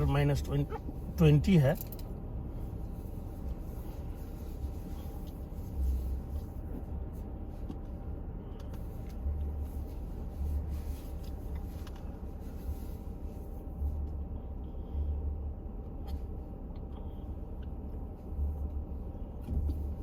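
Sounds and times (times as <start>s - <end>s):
car engine and road rumble: 0.0s - 20.0s
faint steady hum: 0.0s - 20.0s.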